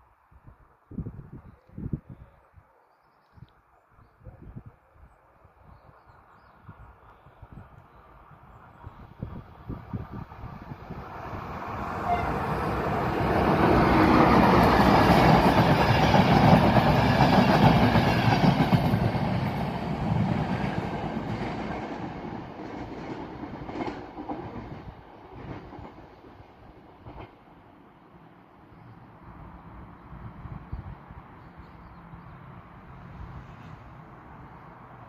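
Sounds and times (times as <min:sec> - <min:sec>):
passenger train passing: 0:05.4 - 0:35.0.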